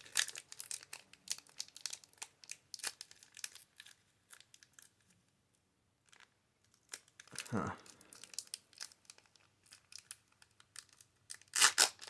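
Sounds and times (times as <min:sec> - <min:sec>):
foil wrapper crinkling and tearing: 0:00.0 - 0:05.1, 0:06.0 - 0:12.0.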